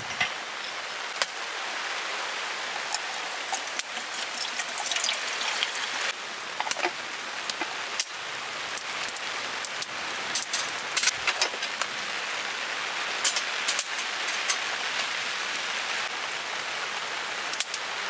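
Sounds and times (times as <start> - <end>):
heavy rain hissing: 0.0 - 18.0
rain drops hitting: 0.0 - 18.0.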